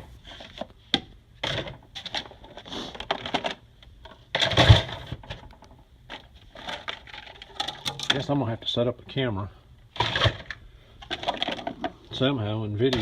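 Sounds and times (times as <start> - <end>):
plastic containers clacking: 0.0 - 8.5, 9.9 - 13.0.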